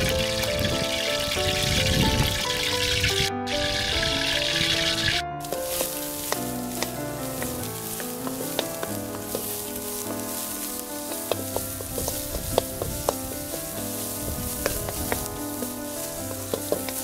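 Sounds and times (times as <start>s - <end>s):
background music: 0.0s - 17.0s
food sizzling in a wok: 0.0s - 17.0s.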